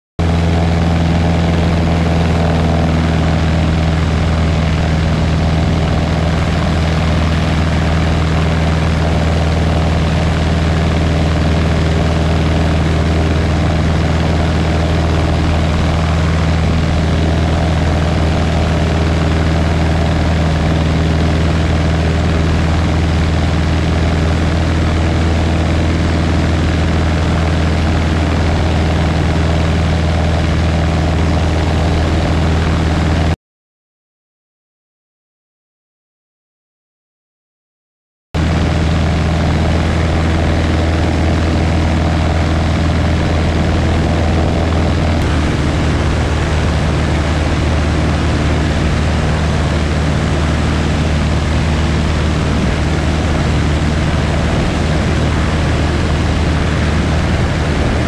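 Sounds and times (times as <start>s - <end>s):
propeller airplane engine droning: 0.2s - 33.4s, 38.4s - 58.0s.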